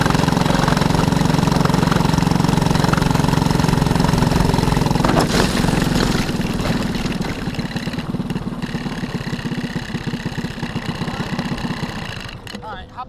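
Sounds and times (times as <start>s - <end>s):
kart engine slowing to idle: 0.0s - 13.0s.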